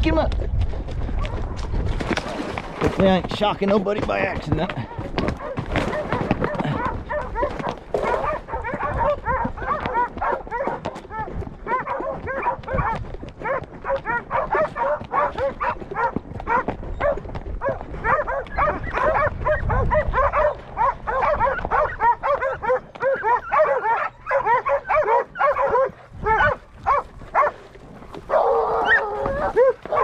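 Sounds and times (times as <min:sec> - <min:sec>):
puppies barking and yipping: 0:04.1 - 0:30.0.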